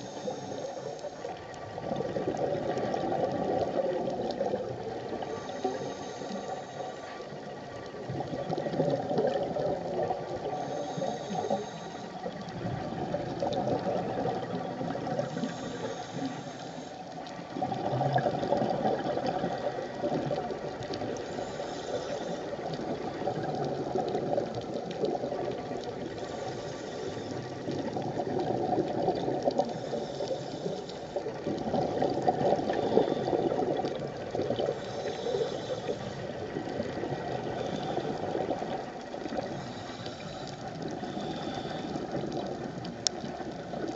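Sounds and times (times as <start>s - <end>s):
underwater regulator bubbles: 0.0s - 6.6s, 7.2s - 43.9s.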